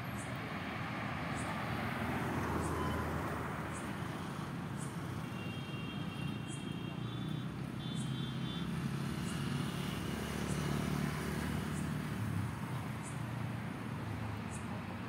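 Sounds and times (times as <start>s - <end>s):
passing vehicle engine and tyres: 0.0s - 15.0s.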